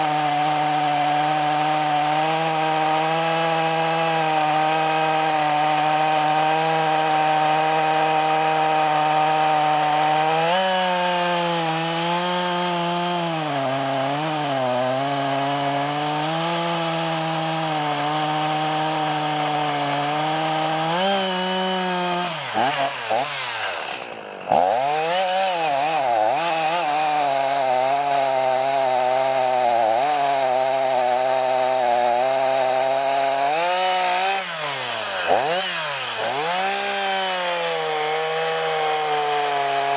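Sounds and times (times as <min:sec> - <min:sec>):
chainsaw running at high speed: 0:00.0 - 0:39.9.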